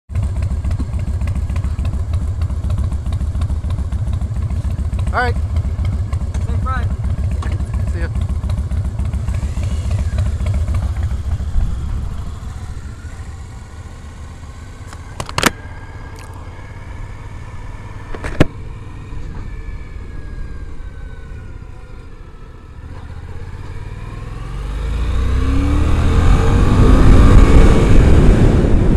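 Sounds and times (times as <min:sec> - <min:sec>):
motorcycle accelerating: 0:00.1 - 0:28.9
motorcycle engine riding away: 0:00.1 - 0:28.9.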